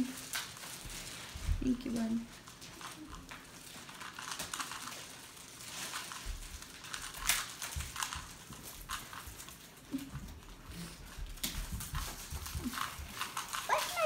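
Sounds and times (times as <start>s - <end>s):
plastic wrap crinkling: 0.0s - 14.0s.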